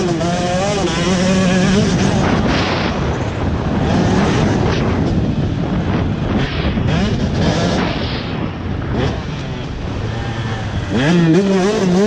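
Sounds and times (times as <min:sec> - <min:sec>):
dirt bike engine revving: 0:00.0 - 0:12.0
wind buffeting microphone: 0:00.0 - 0:12.0.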